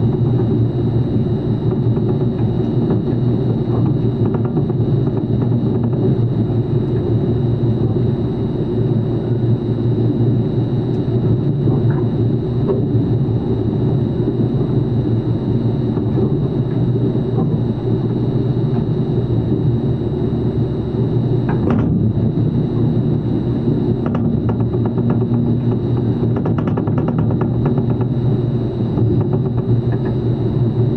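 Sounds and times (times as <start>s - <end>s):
high steady whine: 0.0s - 30.9s
machinery rumble: 0.0s - 30.9s.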